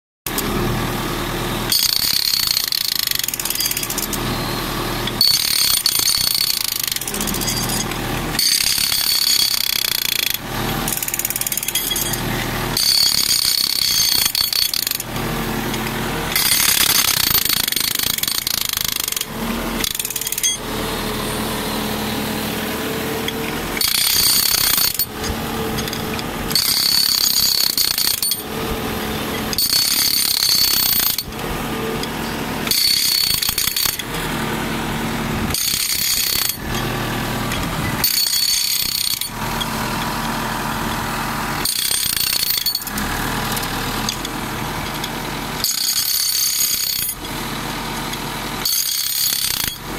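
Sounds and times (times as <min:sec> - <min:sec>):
engine running steadily: 0:00.3 - 0:49.9
hydraulic breaker hammering: 0:00.3 - 0:49.9.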